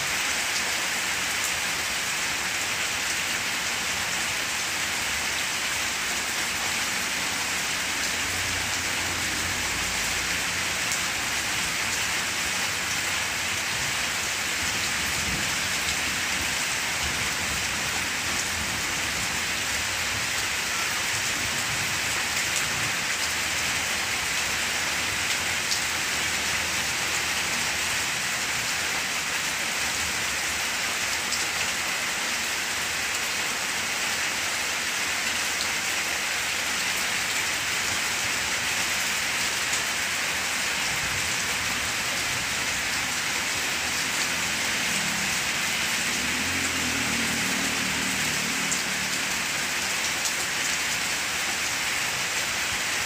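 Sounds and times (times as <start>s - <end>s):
rain pattering on broad leaves: 0.0s - 53.0s.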